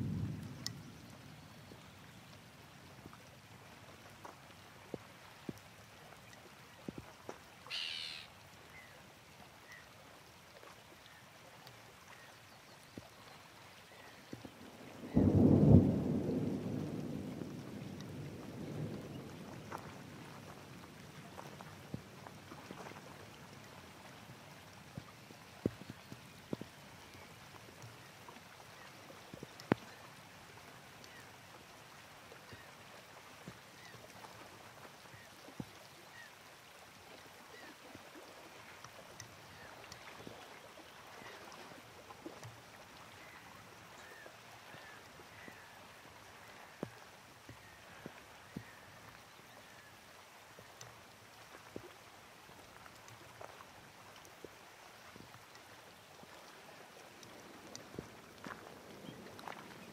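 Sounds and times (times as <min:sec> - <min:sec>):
raindrop ticks: 0:00.0 - 0:08.2, 0:11.6 - 0:31.3, 0:32.3 - 0:36.3, 0:38.6 - 0:40.5, 0:42.2 - 0:45.8, 0:46.5 - 0:49.9, 0:50.6 - 0:59.9
soft wash of sea water: 0:00.0 - 0:59.9.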